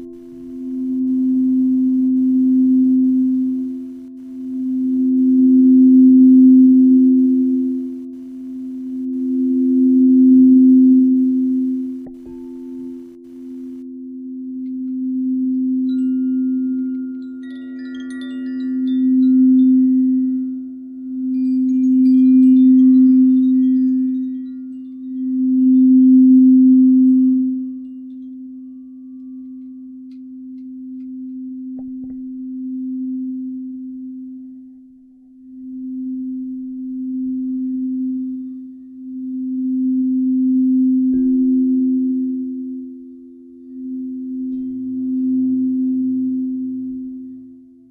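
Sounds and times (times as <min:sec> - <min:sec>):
singing bowls humming: 0:00.0 - 0:31.7, 0:35.4 - 0:47.9
faint high ringing notes: 0:00.0 - 0:34.4, 0:35.4 - 0:47.8.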